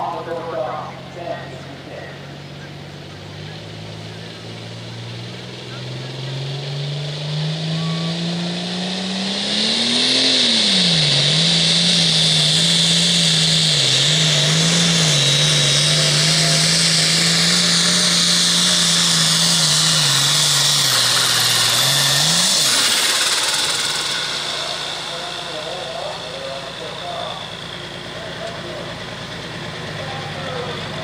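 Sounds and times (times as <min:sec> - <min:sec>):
high whine: 0:00.0 - 0:03.2, 0:07.6 - 0:31.0
diesel engine running under load: 0:00.0 - 0:31.0.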